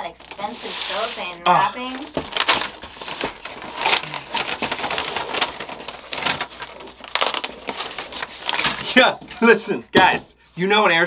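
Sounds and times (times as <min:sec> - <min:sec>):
paper and plastic wrap crinkling: 0:00.0 - 0:09.5
paper ripping: 0:00.1 - 0:09.0.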